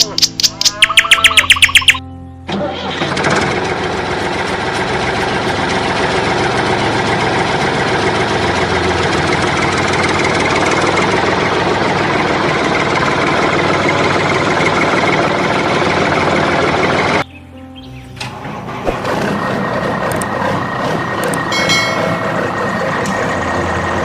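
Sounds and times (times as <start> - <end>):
motor running: 2.9 - 17.2, 18.4 - 24.0.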